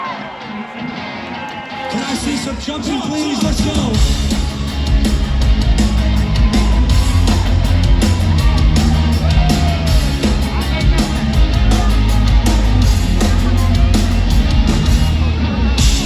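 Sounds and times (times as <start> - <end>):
audience voices: 0.0 - 16.0
live rock band playing: 0.0 - 16.0.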